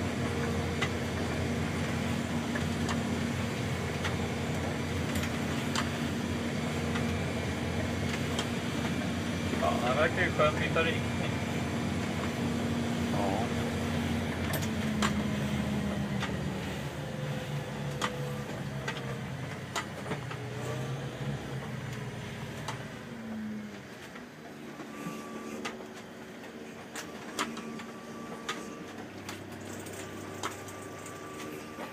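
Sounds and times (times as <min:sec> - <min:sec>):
boat engine humming: 0:00.0 - 0:31.9.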